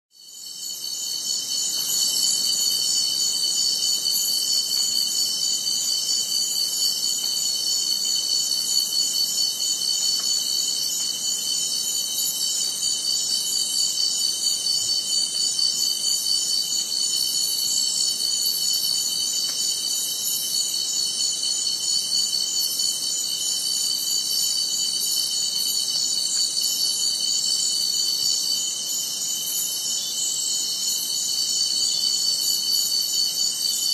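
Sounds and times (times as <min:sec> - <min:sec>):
night insects trilling: 0:00.2 - 0:33.9.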